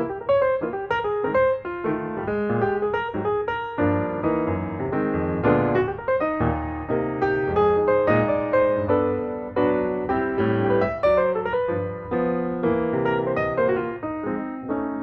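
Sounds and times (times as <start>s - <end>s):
fast piano music: 0.0s - 15.0s.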